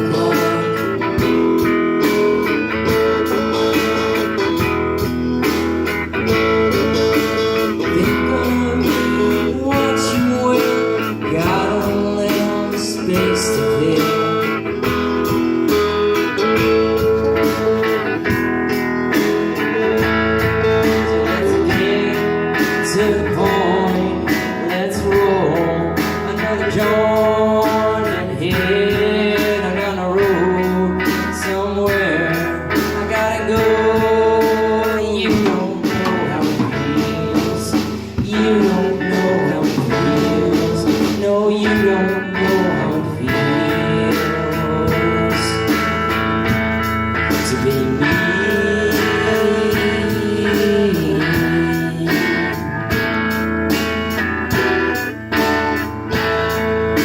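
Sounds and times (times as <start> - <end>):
band playing blues-rock: 0.0 - 57.0
sliding guitar notes: 0.0 - 57.0.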